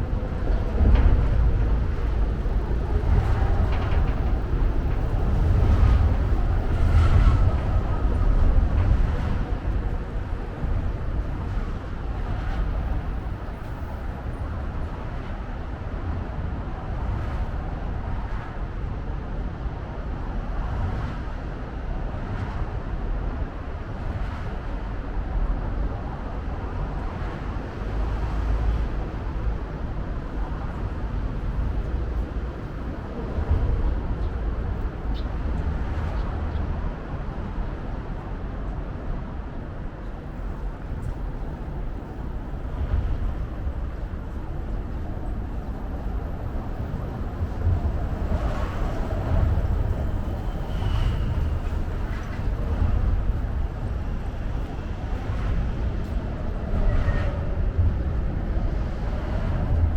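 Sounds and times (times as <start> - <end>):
city traffic rumble: 0.0 - 59.9.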